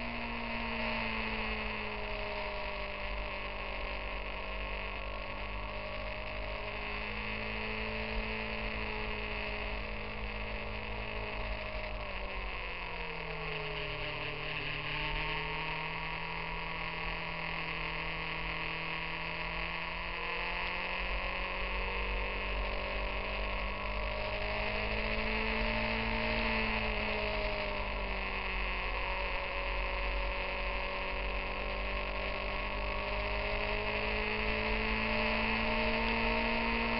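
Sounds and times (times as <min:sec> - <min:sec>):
motorcycle engine cruising: 0:00.0 - 0:36.9
wind and road noise: 0:00.0 - 0:36.9.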